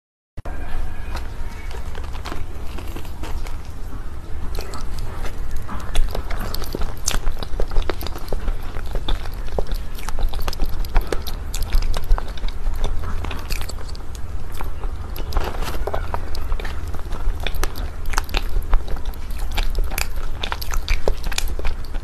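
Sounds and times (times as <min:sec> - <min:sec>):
steady low rumble: 0:00.4 - 0:22.0
chocolate coating crackling: 0:00.6 - 0:22.0
chewing mouth sounds: 0:00.9 - 0:22.0.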